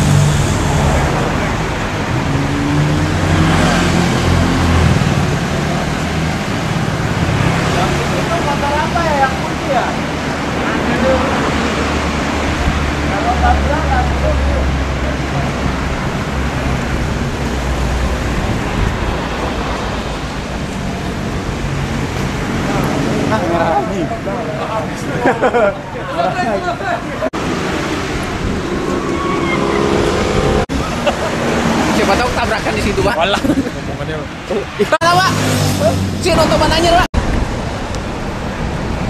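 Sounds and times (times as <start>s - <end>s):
motorcycle engines droning: 0.0s - 38.7s.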